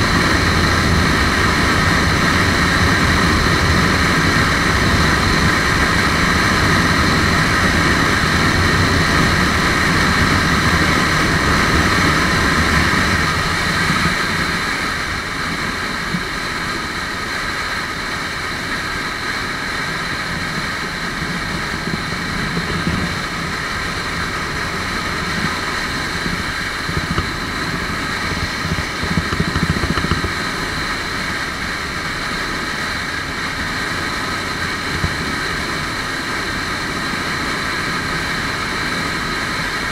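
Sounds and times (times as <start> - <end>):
motorcycle engine running: 0.0 - 39.9
wind rushing past microphone: 0.0 - 39.9.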